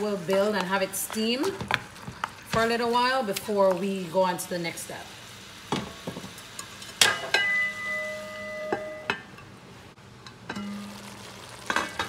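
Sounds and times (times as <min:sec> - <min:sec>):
faint sizzling: 0:00.0 - 0:12.0.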